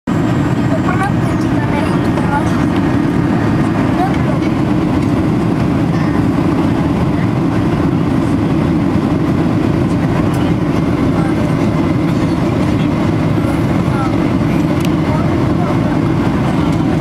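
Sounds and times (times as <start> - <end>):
airplane low rumble: 0.1 - 17.0.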